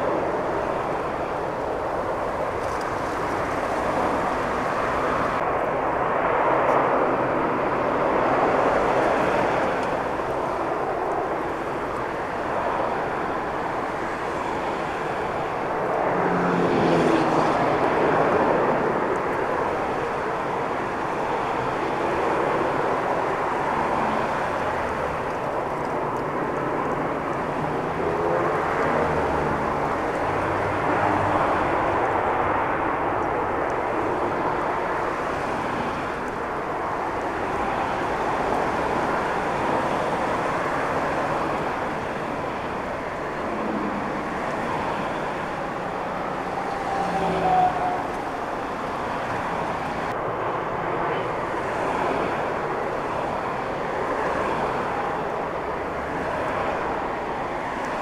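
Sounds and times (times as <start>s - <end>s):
jet engines during takeoff: 0.0s - 58.0s.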